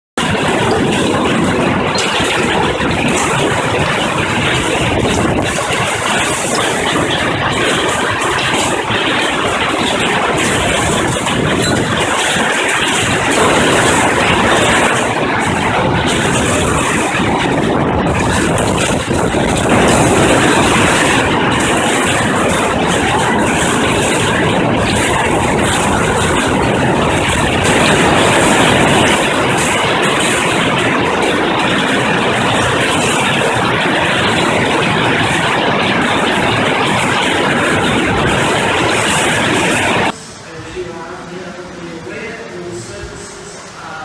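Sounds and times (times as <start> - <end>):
hail and heavy rain: 0.2 - 40.2.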